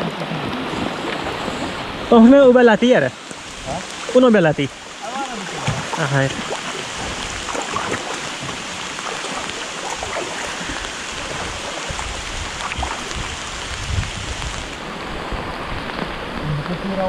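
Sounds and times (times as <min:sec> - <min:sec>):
paddle splashing and dripping: 0:00.0 - 0:16.8
rain hissing on water: 0:00.0 - 0:17.0.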